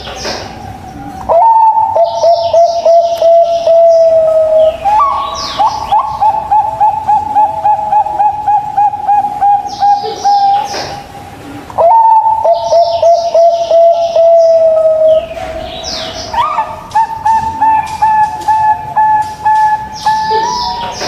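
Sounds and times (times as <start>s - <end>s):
dove cooing: 0.0s - 21.0s
high bird chirping: 0.0s - 21.0s.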